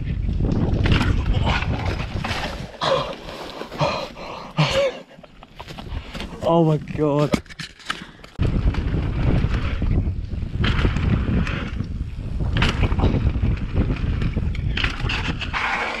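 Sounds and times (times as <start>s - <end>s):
wind buffeting microphone: 0.0s - 7.2s, 8.4s - 16.0s
low rumble of bike on trail: 0.0s - 16.0s.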